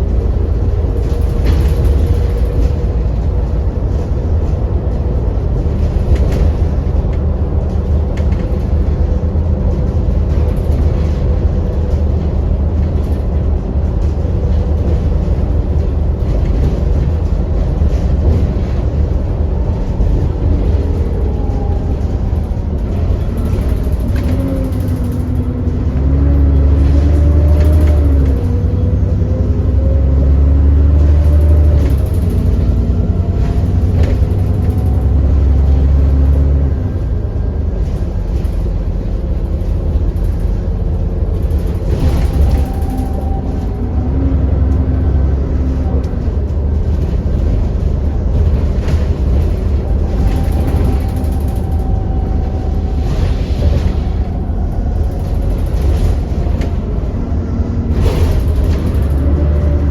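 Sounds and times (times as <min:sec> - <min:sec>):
bus engine rumble and hum: 0:00.0 - 0:59.9.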